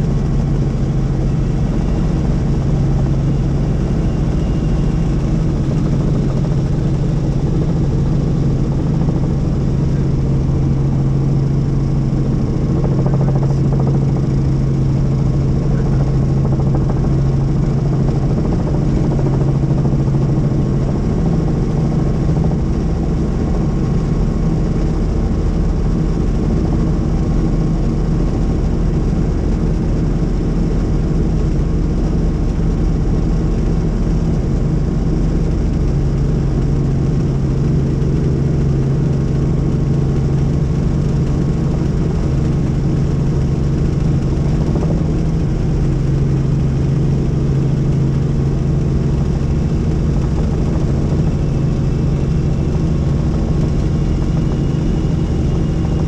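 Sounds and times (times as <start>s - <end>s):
helicopter engine and rotor noise: 0.0s - 56.0s.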